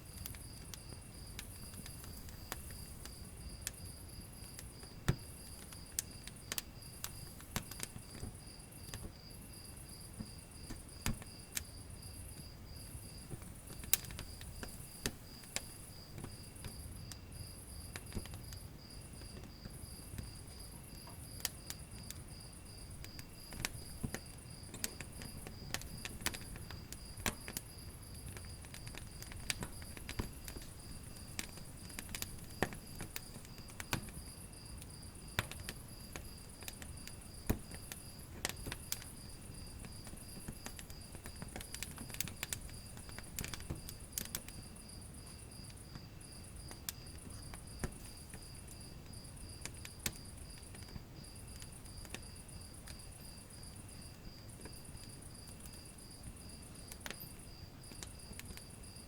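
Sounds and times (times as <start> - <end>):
crickets chirping: 0.0 - 59.0
high insect trill: 0.0 - 59.0
wood fire crackling: 0.0 - 59.0.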